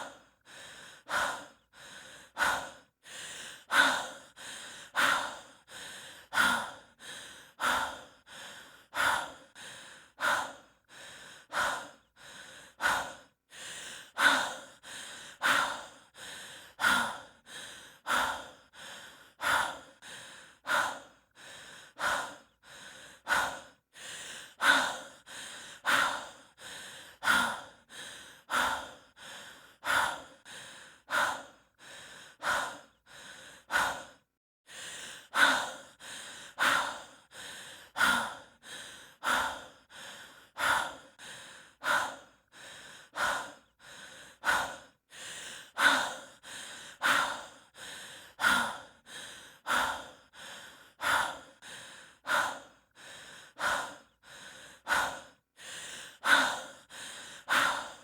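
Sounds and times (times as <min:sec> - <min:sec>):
person breathing hard: 0:00.0 - 0:58.0.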